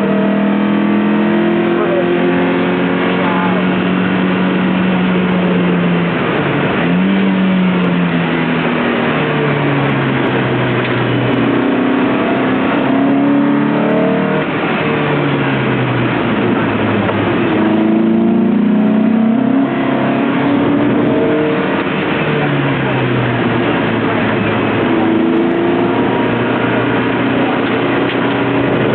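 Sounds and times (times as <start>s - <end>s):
race car engine accelerating: 0.0s - 28.9s.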